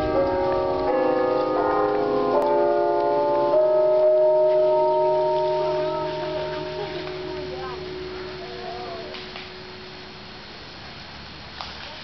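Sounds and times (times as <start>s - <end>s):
bell tower bells ringing: 0.0s - 10.8s.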